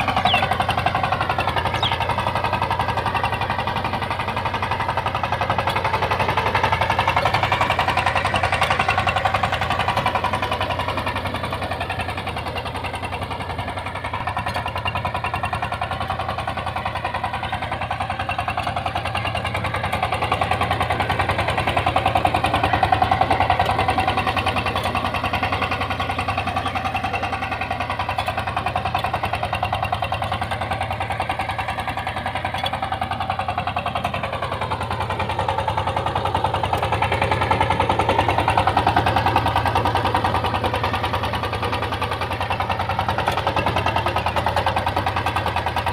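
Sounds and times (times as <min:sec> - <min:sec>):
diesel tiller engine chugging: 0:00.0 - 0:45.9.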